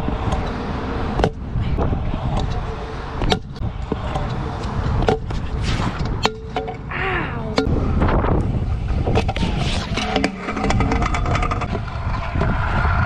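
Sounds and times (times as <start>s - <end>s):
scooter wheels rumbling on concrete: 0.0s - 13.0s.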